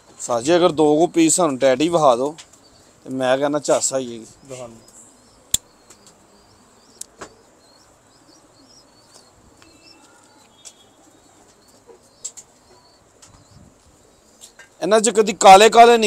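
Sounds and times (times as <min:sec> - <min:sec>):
faint high bird chirping: 0:00.0 - 0:16.0.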